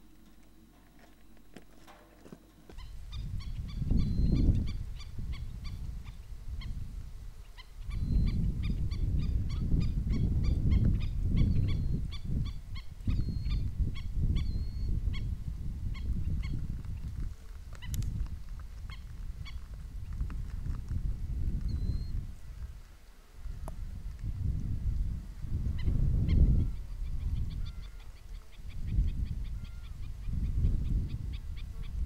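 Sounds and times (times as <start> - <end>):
wind gusting on microphone: 2.7 - 32.0.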